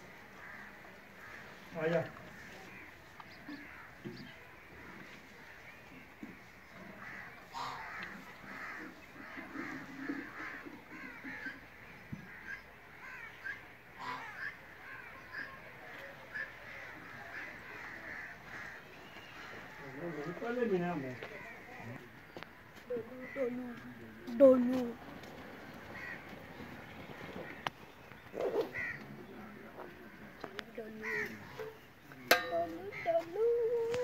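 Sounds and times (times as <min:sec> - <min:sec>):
birds calling: 0:00.0 - 0:34.0.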